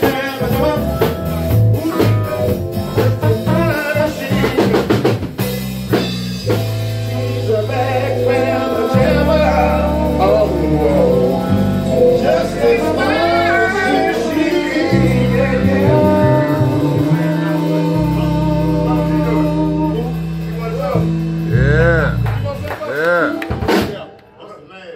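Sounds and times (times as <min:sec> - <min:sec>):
person singing: 0:00.0 - 0:04.8, 0:07.0 - 0:22.3, 0:22.9 - 0:23.5
electric bass low notes: 0:00.0 - 0:23.8
live band playing: 0:00.0 - 0:24.4.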